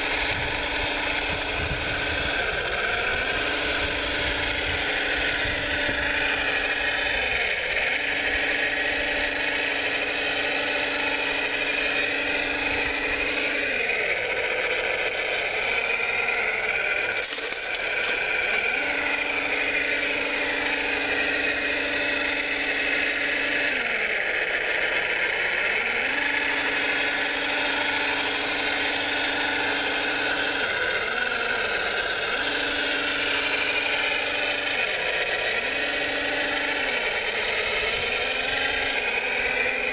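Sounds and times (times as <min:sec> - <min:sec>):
electric motors whirring: 0:00.0 - 0:39.9.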